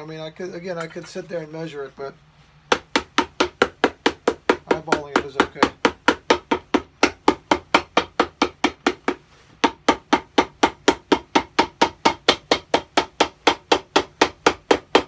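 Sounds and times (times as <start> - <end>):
hammer beating leather sole: 2.7 - 15.0.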